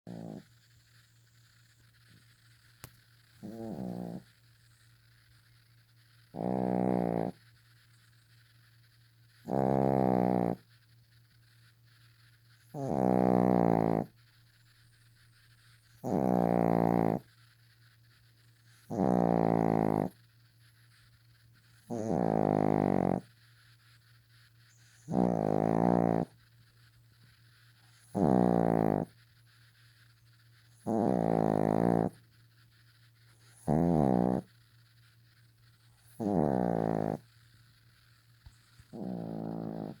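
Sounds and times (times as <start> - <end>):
loud rhythmic snoring: 0.1 - 0.8, 2.8 - 4.5, 5.9 - 14.5, 15.1 - 40.0.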